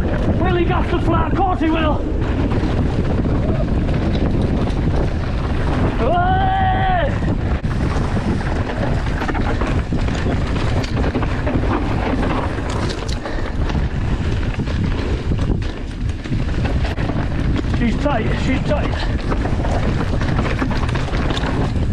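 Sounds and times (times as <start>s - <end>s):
bike rattling clicks and knocks: 0.0s - 21.9s
tyre roar on dirt: 0.0s - 21.9s
wind buffeting microphone: 0.0s - 21.9s.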